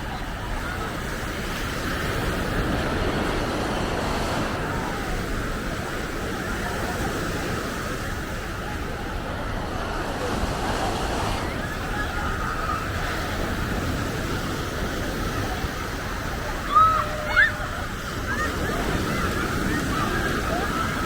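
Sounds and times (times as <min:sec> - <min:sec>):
babble of distant voices: 0:00.0 - 0:21.0
surf: 0:00.0 - 0:21.0.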